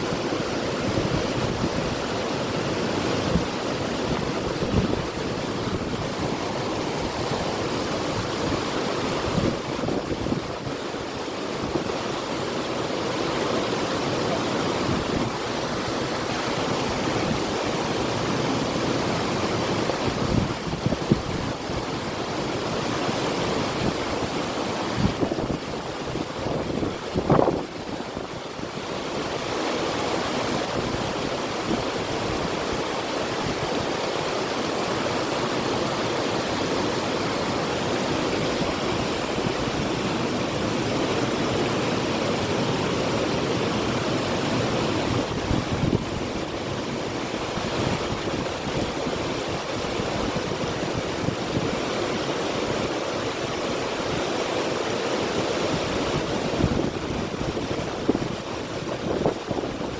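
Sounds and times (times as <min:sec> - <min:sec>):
river water rushing: 0:00.0 - 0:59.9
wind: 0:00.0 - 0:59.9.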